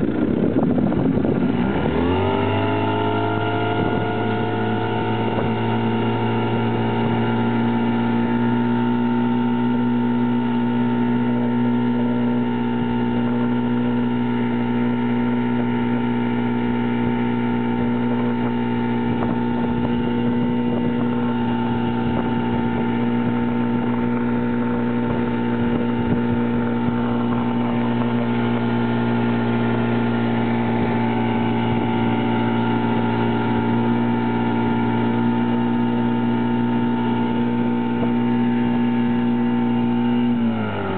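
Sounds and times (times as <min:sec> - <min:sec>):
outboard motor running: 0:00.0 - 0:40.9.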